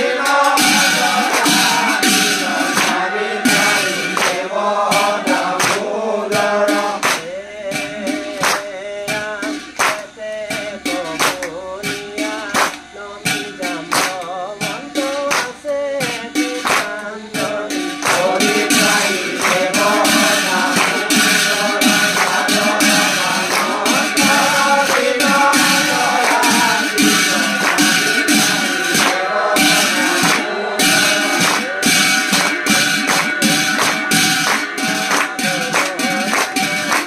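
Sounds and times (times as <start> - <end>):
devotional group singing: 0.0 - 37.0
percussion beat: 0.0 - 37.0.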